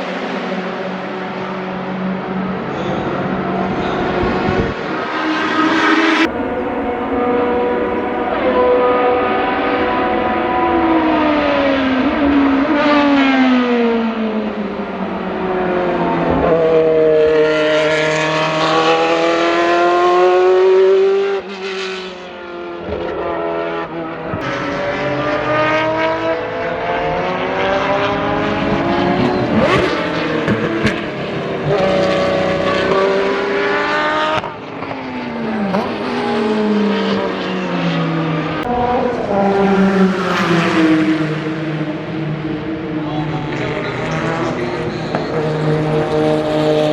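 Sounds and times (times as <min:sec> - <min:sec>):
race cars passing at speed: 0:00.0 - 0:46.9.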